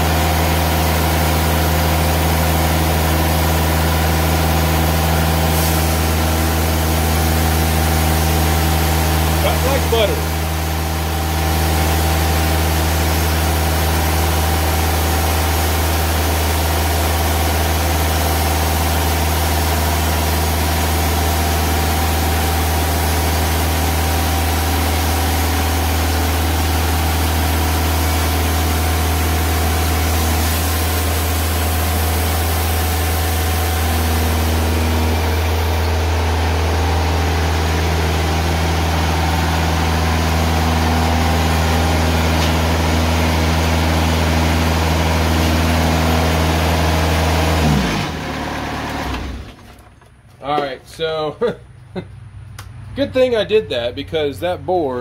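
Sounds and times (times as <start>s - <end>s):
band blade sawing log: 0.0s - 49.4s
sawmill engine droning: 0.0s - 55.0s.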